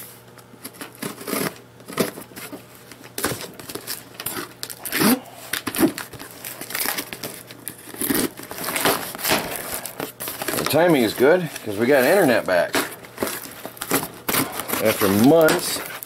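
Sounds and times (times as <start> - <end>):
cardboard rustling: 0.6 - 16.0
tape tearing: 0.6 - 16.0.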